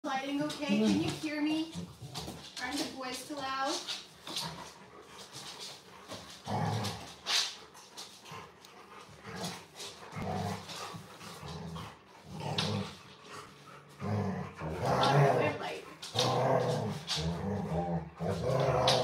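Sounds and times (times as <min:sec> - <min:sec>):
dogs growling in play: 0:00.4 - 0:02.9, 0:03.7 - 0:19.0.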